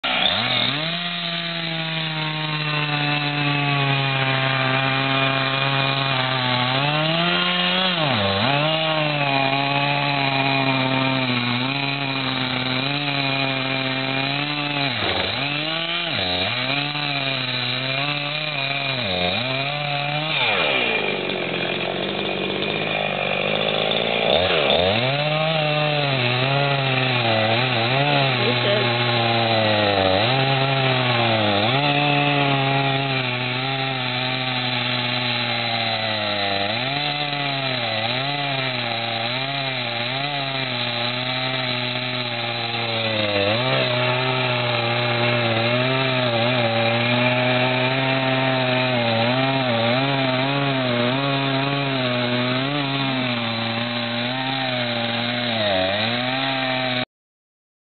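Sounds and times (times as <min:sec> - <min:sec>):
chainsaw cutting logs: 0:00.0 - 0:57.1.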